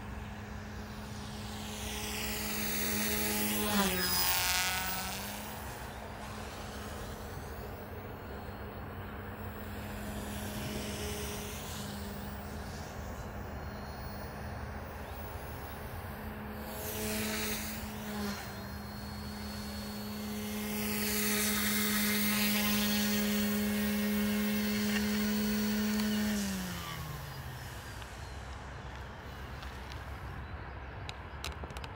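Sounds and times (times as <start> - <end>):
rc helicopter rotor hum: 0.0 - 31.9.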